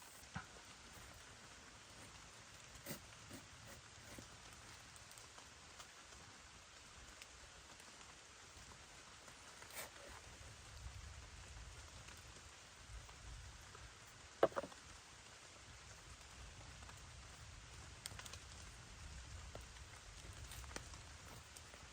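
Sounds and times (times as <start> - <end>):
light rain falling: 0.0 - 21.9.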